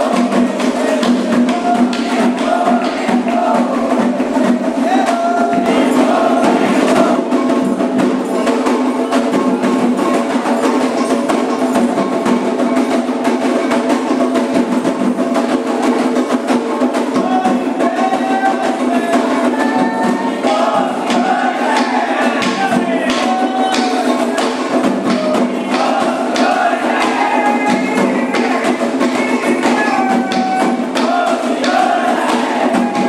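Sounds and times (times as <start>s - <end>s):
group of voices singing: 0.0s - 12.5s, 15.6s - 33.0s
hand drums beating fast rhythm: 0.0s - 33.0s.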